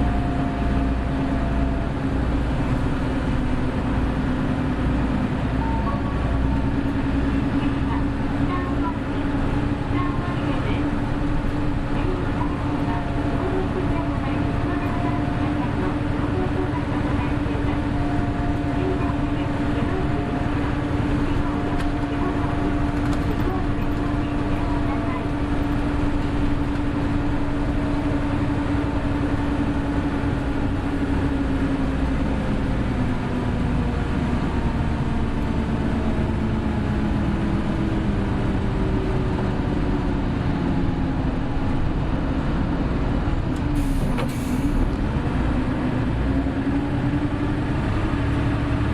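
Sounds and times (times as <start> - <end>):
bus engine droning: 0.0 - 48.9.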